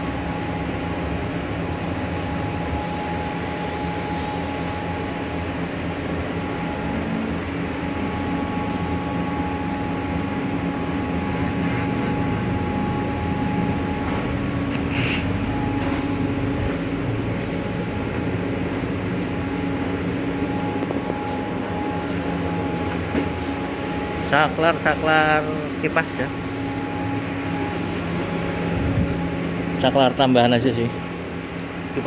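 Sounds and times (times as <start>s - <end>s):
laminating machine humming: 0.0s - 32.0s.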